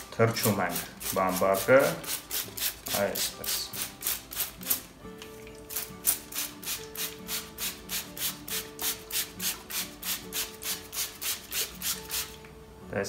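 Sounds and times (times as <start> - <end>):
spray bottle squirting: 0.4 - 12.4.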